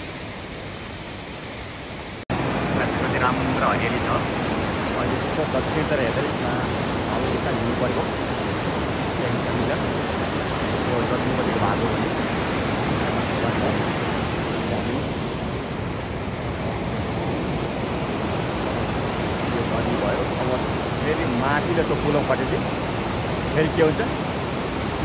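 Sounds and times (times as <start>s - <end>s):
fast river rushing: 0.0s - 25.0s.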